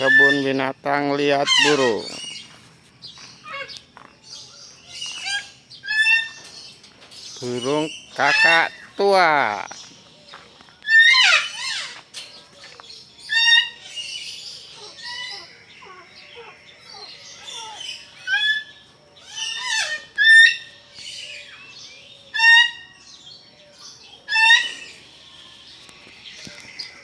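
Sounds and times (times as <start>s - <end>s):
loud ringing bird calls: 0.0s - 2.6s, 3.2s - 27.0s
soft bird chatter: 0.0s - 27.0s.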